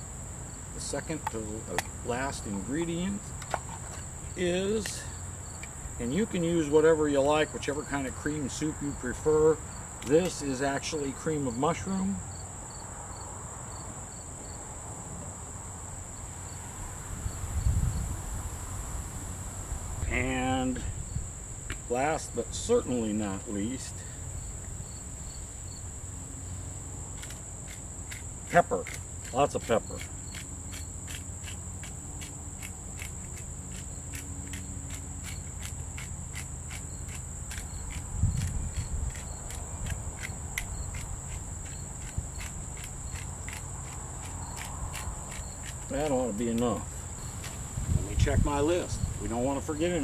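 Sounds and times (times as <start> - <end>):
insect chorus: 0.0 - 50.0.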